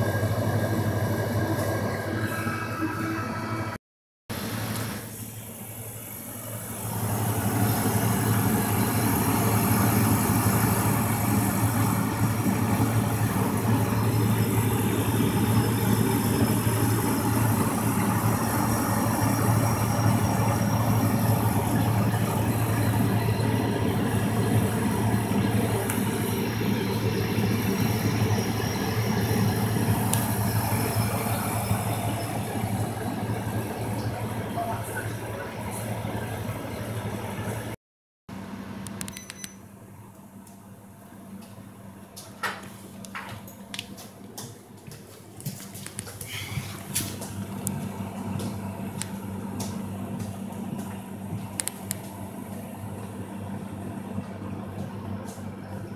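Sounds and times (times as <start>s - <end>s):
condenser fan rushing: 0.0s - 37.8s, 38.4s - 55.9s
compressor hum: 0.0s - 55.9s.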